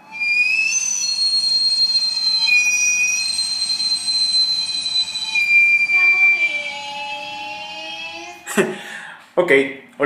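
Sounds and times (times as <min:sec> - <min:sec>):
shrill steam whistle: 0:00.0 - 0:08.1.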